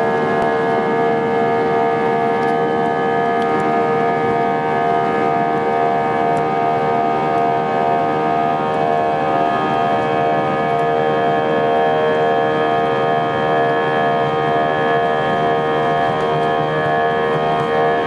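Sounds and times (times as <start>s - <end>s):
jet engines whining at takeoff: 0.0s - 18.0s.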